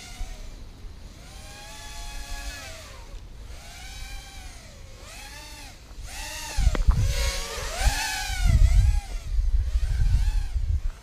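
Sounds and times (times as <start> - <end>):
quadcopter propellers whining: 0.0 - 11.0.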